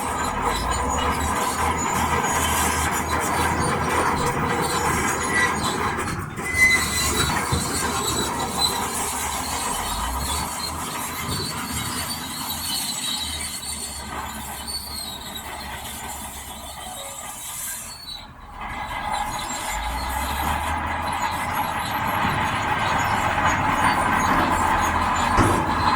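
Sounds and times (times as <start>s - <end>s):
heavy machinery engine running: 0.0s - 25.9s
metallic squealing and grinding: 0.0s - 25.9s.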